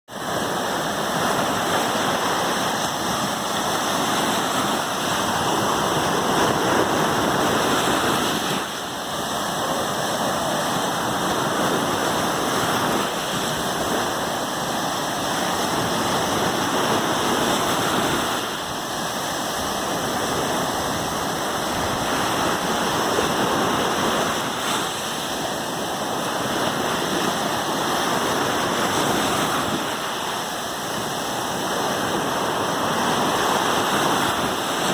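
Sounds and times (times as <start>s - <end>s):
waves washing onto shore: 0.1s - 34.9s.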